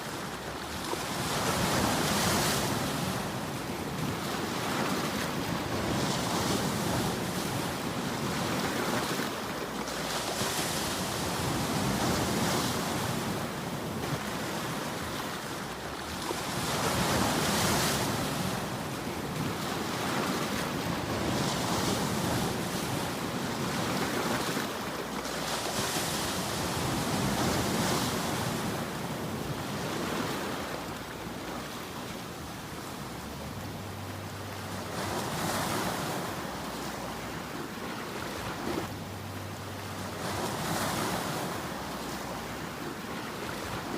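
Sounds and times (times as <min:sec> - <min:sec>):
sea waves breaking on rocks: 0:00.0 - 0:33.7, 0:34.6 - 0:39.0, 0:40.0 - 0:43.9.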